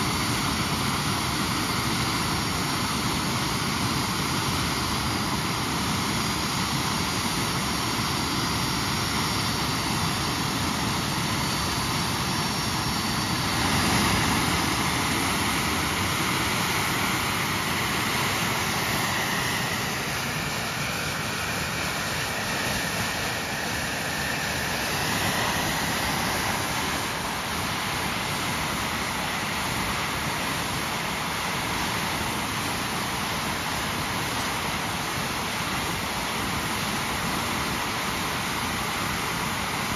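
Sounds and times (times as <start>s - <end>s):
thin engine whine: 0.0s - 37.6s
jet engine running: 0.0s - 39.9s.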